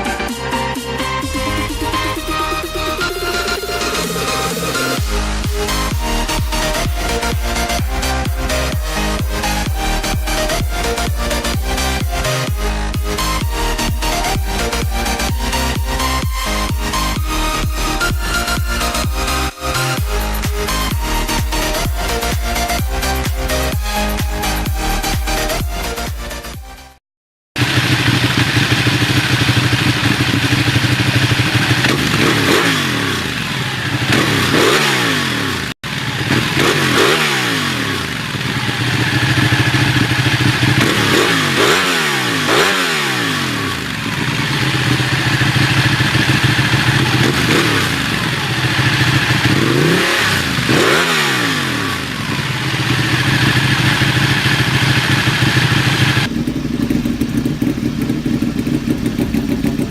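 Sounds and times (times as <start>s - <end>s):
motorcycle engine revving: 0.0s - 26.6s, 27.6s - 59.9s.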